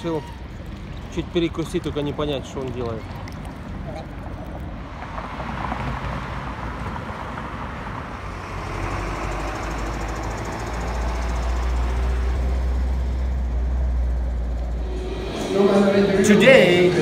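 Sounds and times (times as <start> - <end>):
traffic hiss and rumble: 0.0 - 17.0.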